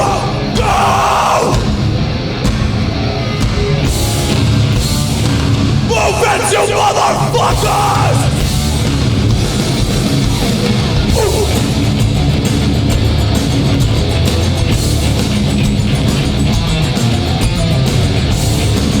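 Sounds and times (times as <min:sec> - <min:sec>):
bass: 0:00.0 - 0:19.0
distorted electric guitars: 0:00.0 - 0:19.0
drums: 0:00.0 - 0:19.0.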